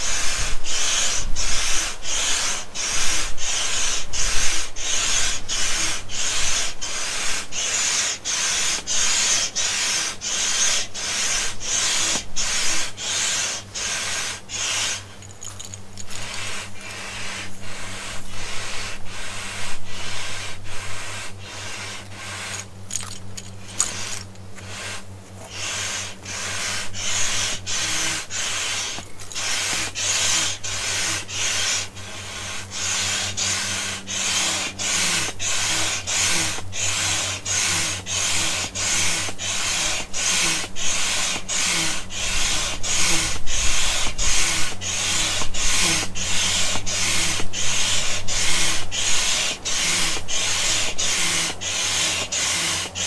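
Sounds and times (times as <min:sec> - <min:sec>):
rhythmic rubbing strokes: 0:00.0 - 0:53.0
steady low hum: 0:00.0 - 0:53.0.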